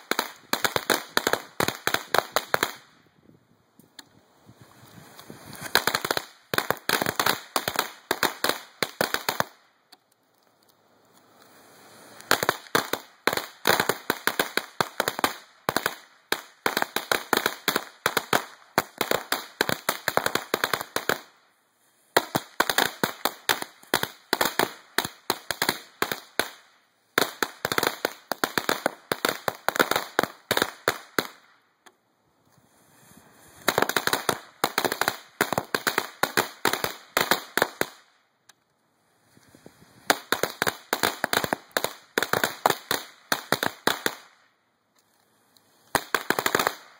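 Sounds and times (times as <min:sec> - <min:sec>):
firecrackers cracking: 0:00.0 - 0:03.1, 0:03.9 - 0:31.9, 0:32.8 - 0:38.6, 0:39.2 - 0:46.9.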